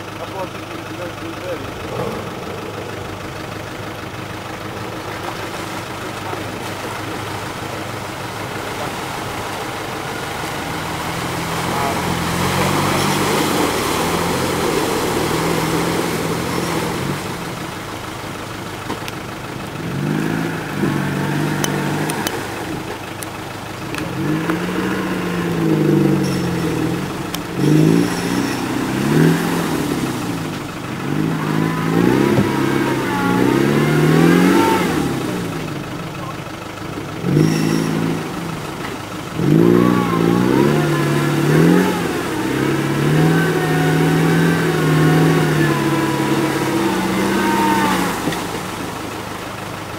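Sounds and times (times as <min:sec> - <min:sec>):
car engine revving: 0:00.0 - 0:18.6, 0:19.5 - 0:49.9.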